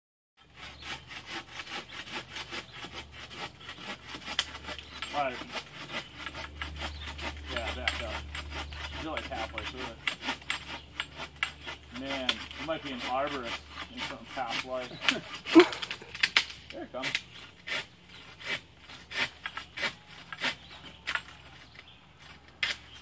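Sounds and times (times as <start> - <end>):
hand saw rasping through wood: 0.4 - 21.5.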